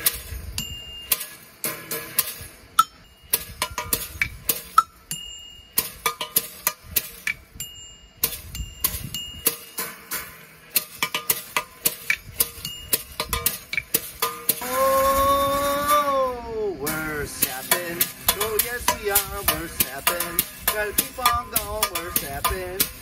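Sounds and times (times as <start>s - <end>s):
stump fiddle clacks and rings: 0.0s - 14.6s, 16.9s - 23.0s.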